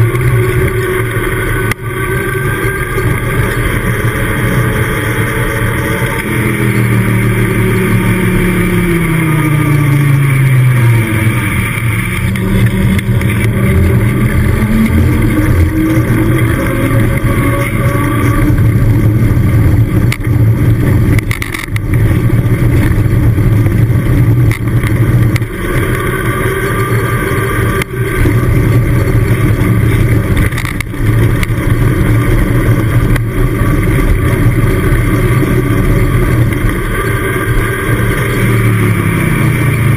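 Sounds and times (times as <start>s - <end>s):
bike tyres humming on tarmac: 0.0s - 39.9s
wind rushing over microphone: 0.0s - 39.9s.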